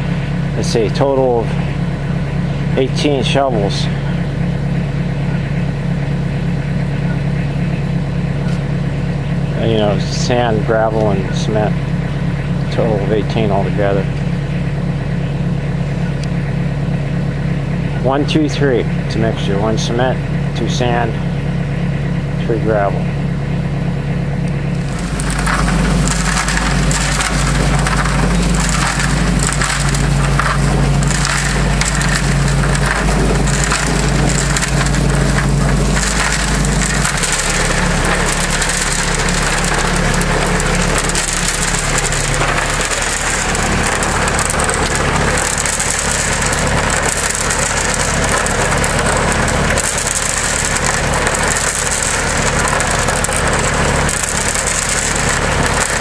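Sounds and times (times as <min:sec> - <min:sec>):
cement mixer drum churning gravel: 0:00.0 - 0:21.5, 0:22.3 - 0:23.3, 0:24.3 - 0:56.0
engine running steadily: 0:00.0 - 0:56.0.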